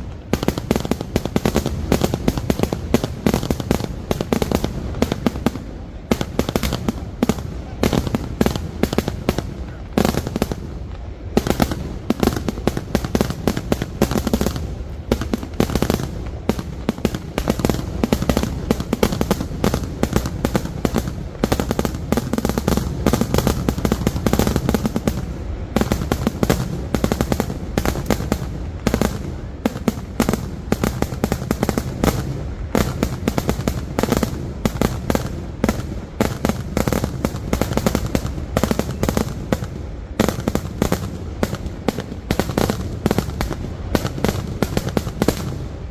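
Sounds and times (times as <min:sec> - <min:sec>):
firecracker explosions: 0:00.0 - 0:45.9.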